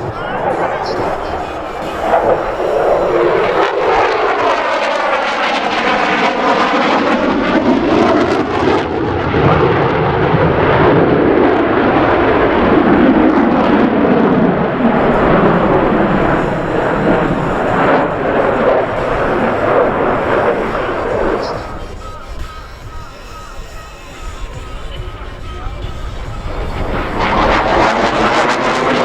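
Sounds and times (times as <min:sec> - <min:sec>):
jet engine roaring: 0:00.0 - 0:29.0
swirling phasing sweep of jet: 0:00.0 - 0:29.0.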